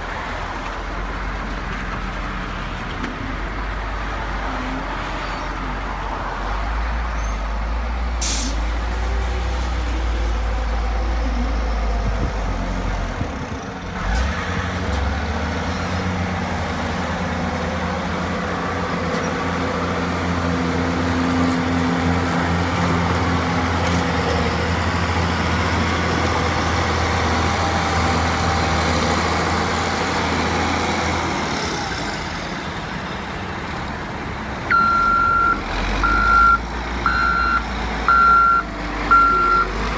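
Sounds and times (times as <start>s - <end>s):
heavy diesel vehicles running: 0.0s - 39.9s.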